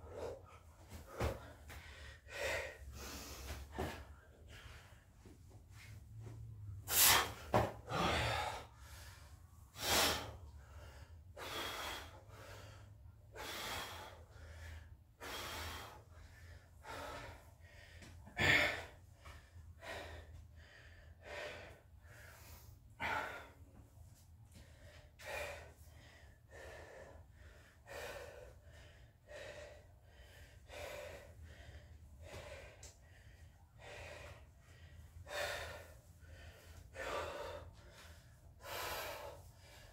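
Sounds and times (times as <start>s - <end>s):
man breathing hard: 0.0s - 39.9s.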